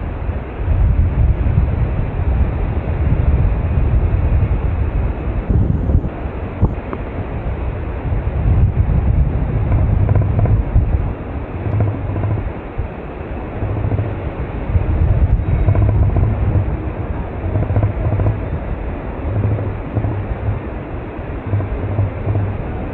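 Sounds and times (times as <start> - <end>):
wind rumbling over microphone: 0.0 - 22.9.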